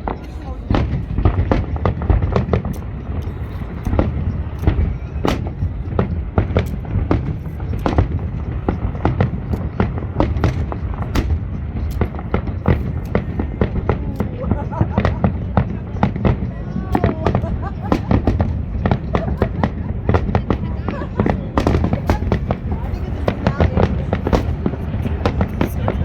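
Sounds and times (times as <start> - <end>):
fireworks bangs and crackles: 0.0 - 26.0
low rumble of shell bursts: 0.7 - 26.0.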